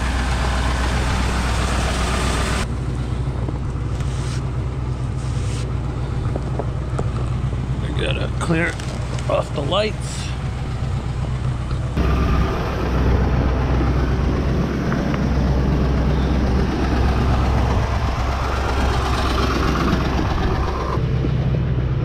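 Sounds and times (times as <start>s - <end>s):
pickup truck idling: 0.0s - 22.0s.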